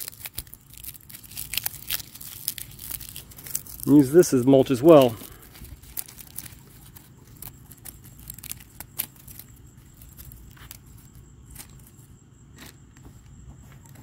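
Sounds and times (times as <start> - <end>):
dry husk crackling and tearing: 0.0 - 12.8.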